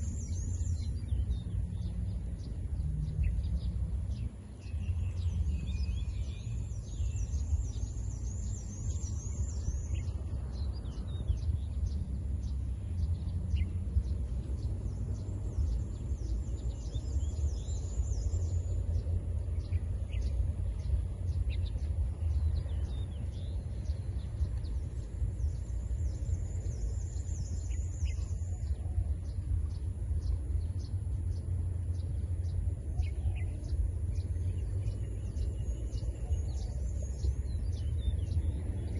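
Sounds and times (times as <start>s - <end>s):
birds chirping: 0.0s - 38.9s
steady low rumble: 0.0s - 38.9s.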